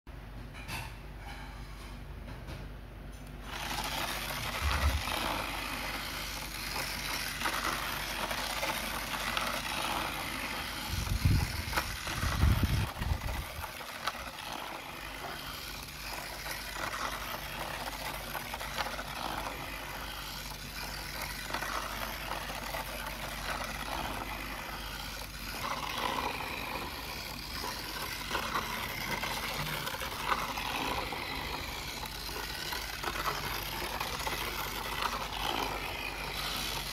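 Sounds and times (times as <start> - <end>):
toy train rattling whir: 3.2 - 36.9.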